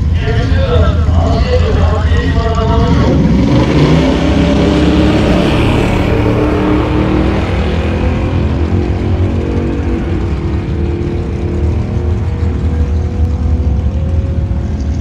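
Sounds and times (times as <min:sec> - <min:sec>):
pickup truck engine at full throttle: 0:00.0 - 0:15.0.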